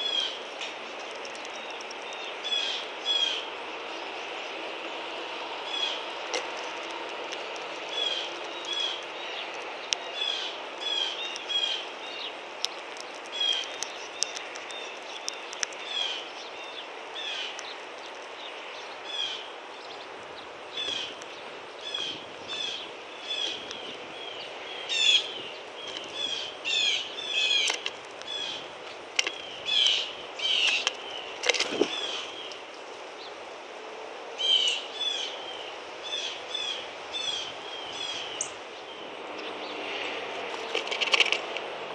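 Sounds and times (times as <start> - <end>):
wild birds chirping: 0.0 - 41.8
steady outdoor hiss: 0.0 - 41.9.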